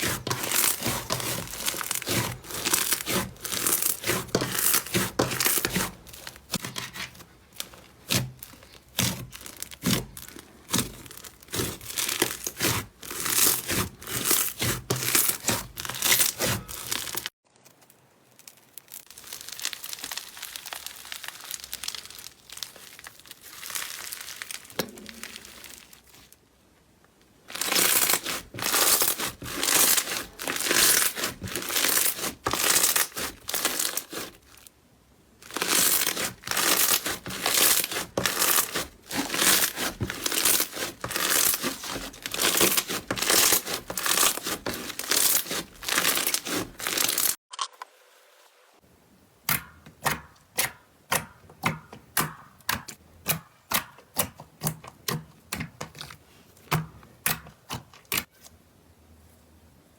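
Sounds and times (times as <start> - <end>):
slime squishing and crackling: 0.0 - 26.4, 27.5 - 34.7, 35.4 - 47.4, 49.5 - 58.4.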